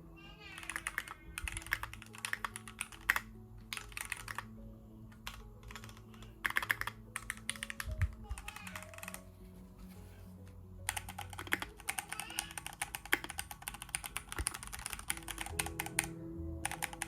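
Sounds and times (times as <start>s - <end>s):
background music: 0.0s - 17.0s
typing on mechanical keyboard: 0.5s - 4.5s, 5.2s - 9.3s, 10.9s - 17.0s.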